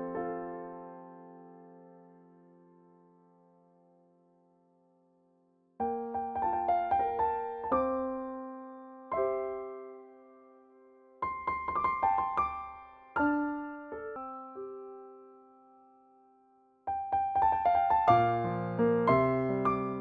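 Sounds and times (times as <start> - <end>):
piano music: 0.0 - 4.9, 5.8 - 20.0.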